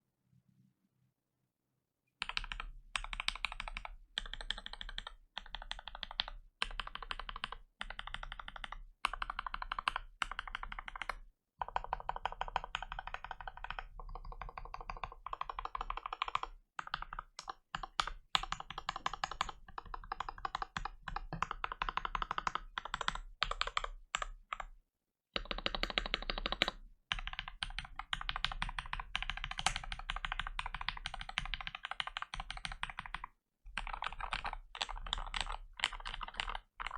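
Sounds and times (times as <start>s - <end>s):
fast typing on mechanical keyboard: 2.2s - 24.7s, 25.4s - 36.9s.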